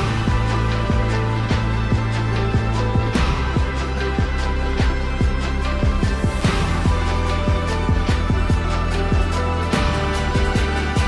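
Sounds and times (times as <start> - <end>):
electronic music with kick drums: 0.0 - 11.0.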